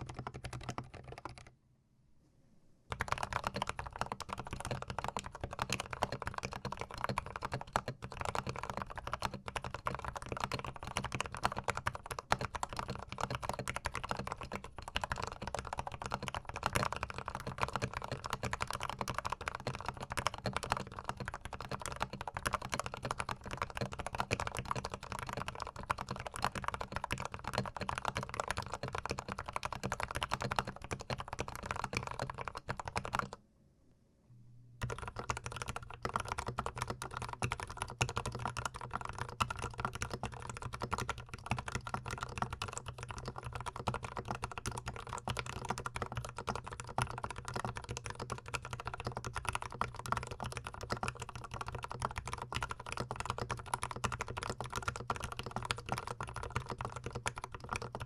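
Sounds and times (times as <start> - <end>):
mechanical keyboard typing: 0.0 - 1.5, 2.9 - 33.4, 34.8 - 58.0.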